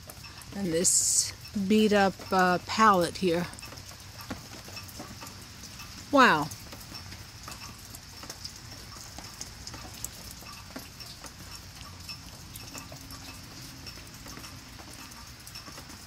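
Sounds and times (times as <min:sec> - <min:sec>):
water dripping on plastic tarp: 0:00.0 - 0:16.0.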